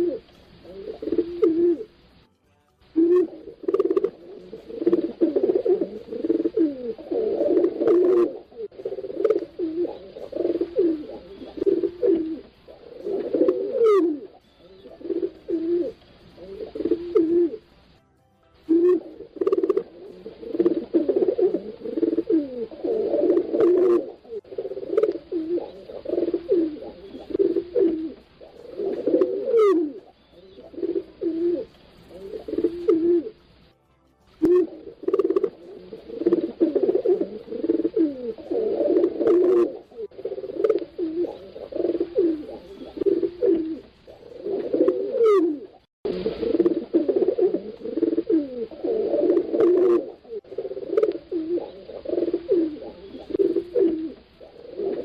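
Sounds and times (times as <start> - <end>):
pigeons cooing: 0.0 - 2.1, 3.0 - 17.8, 18.7 - 33.5, 34.4 - 55.0.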